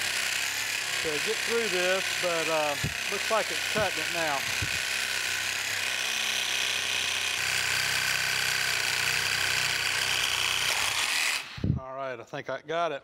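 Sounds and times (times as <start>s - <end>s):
reciprocating saw cutting steel: 0.0s - 11.7s.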